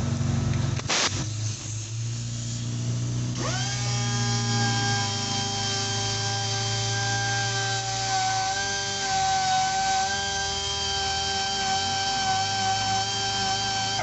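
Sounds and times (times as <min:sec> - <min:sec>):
power tool motor whining: 0:00.8 - 0:14.0.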